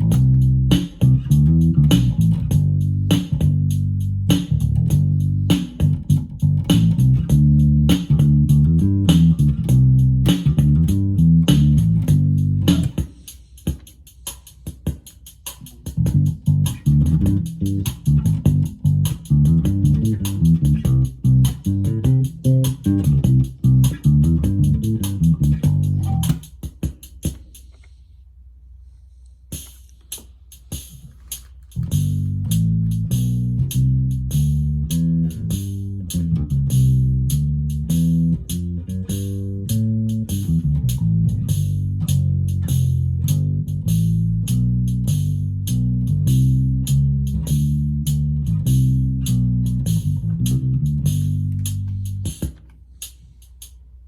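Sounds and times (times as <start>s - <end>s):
bass guitar bassline: 0.0s - 13.1s, 15.8s - 26.5s, 31.7s - 52.5s
drum machine beat: 0.0s - 27.8s, 29.5s - 54.0s.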